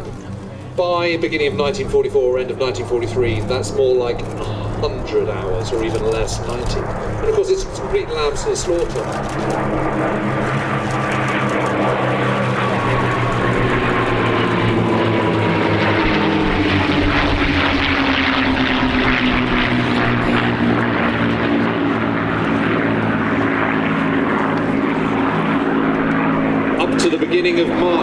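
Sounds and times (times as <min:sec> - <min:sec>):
propeller aircraft engine drone: 0:00.0 - 0:28.0.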